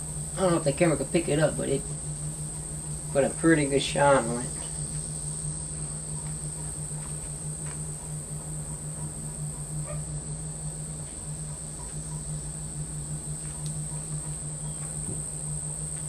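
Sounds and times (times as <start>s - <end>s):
insects trilling: 0.0s - 16.0s
low steady hum: 0.0s - 16.0s.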